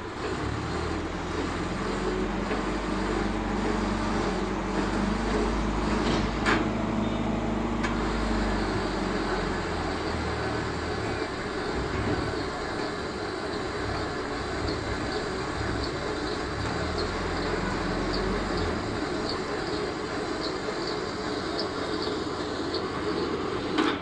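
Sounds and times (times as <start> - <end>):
low motor hum: 0.0 - 23.8
street noise: 0.0 - 24.0.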